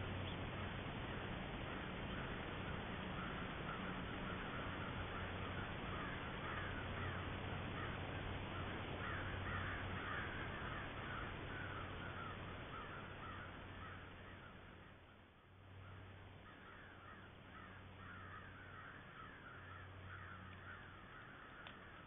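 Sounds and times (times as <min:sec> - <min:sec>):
low steady hum: 0:00.0 - 0:22.0
crows cawing: 0:01.7 - 0:22.0.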